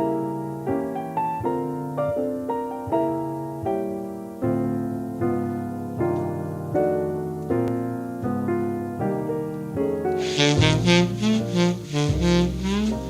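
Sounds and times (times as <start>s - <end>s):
jazz piano chords: 0.0s - 13.0s.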